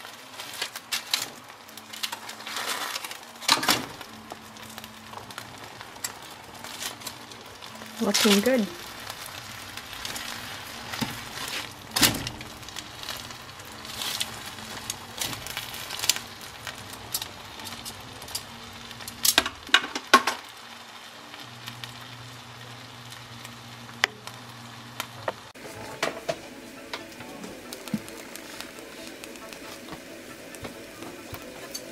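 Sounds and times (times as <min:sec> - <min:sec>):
pan juices sizzling: 0:00.0 - 0:31.9.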